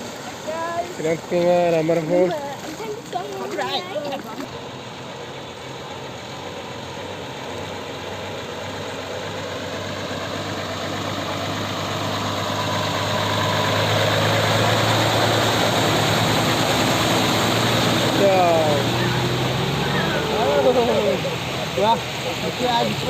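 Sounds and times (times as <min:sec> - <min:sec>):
broad rushing noise: 0:00.0 - 0:23.0
vehicle engine humming: 0:00.0 - 0:23.0.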